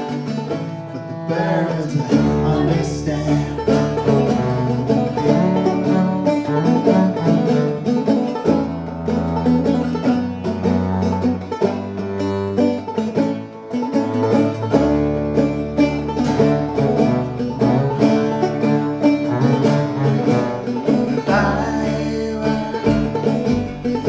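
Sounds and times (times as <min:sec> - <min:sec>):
plucked string notes: 0:00.0 - 0:24.0
upright bass notes: 0:00.0 - 0:24.0.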